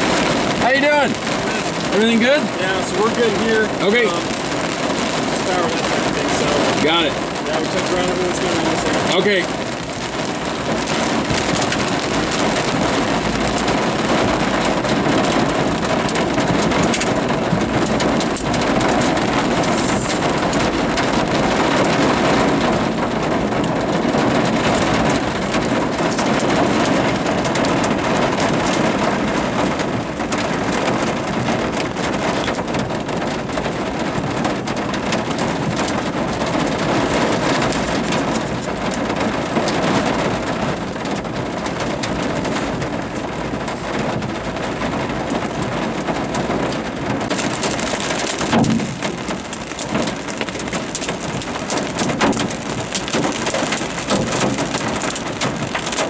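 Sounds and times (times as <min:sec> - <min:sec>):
heavy rain on vehicle roof: 0:00.0 - 0:56.0.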